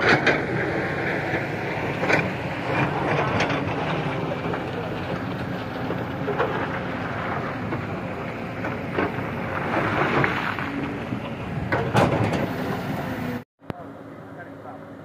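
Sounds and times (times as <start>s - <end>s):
rumble and rattle over rocks: 0.0s - 12.9s
vehicle engine running: 0.0s - 15.0s.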